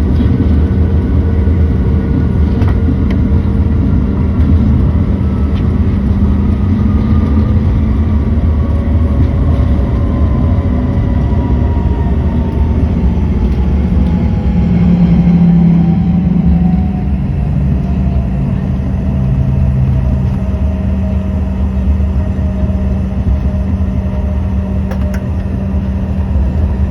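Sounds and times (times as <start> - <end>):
jet engines winding down: 0.0 - 26.9.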